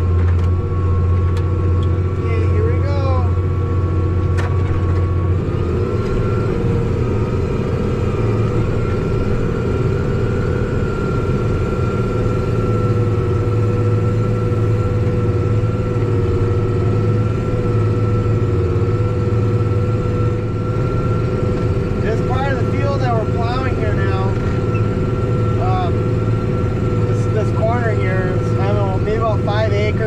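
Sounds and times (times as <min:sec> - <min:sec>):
tractor engine droning: 0:00.0 - 0:30.0.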